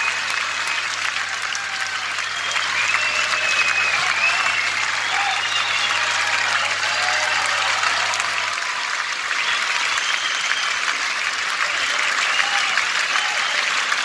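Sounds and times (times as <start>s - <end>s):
audience applauding: 0.0s - 14.0s
crowd cheering: 0.0s - 14.0s.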